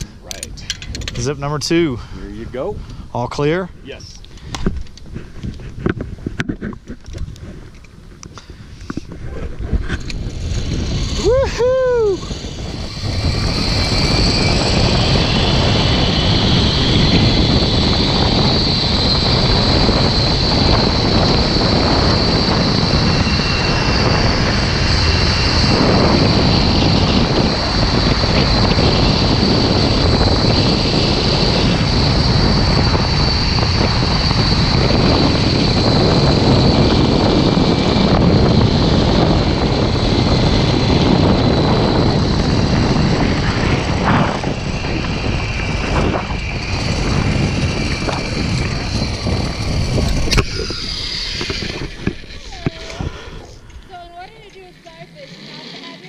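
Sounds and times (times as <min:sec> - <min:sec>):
wind rushing across microphone: 0:00.0 - 0:56.0
zipline pulley whine: 0:04.0 - 0:56.0.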